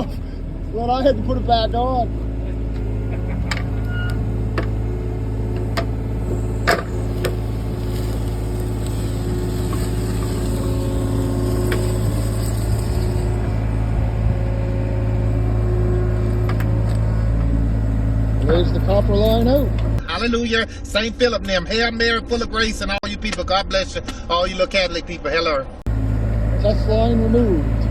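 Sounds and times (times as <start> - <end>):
engine droning: 0.0 - 27.9.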